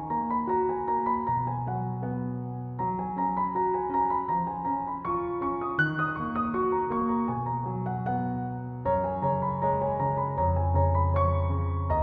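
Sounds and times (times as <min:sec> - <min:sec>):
soft piano melody: 0:00.0 - 0:12.0.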